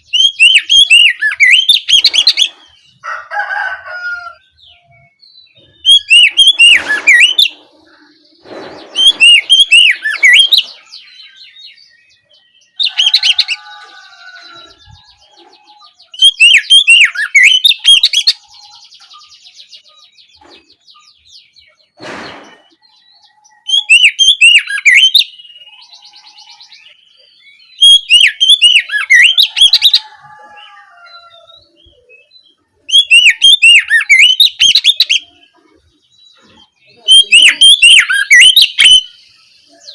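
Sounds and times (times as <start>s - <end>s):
bird singing whistles and chirps: 0.0s - 2.7s, 4.7s - 30.8s, 31.5s - 39.9s.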